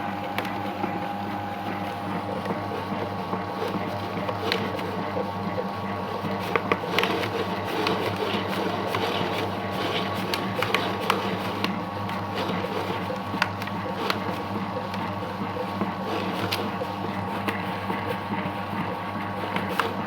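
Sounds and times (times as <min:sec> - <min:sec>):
mixing machine motor hum: 0:00.0 - 0:20.0.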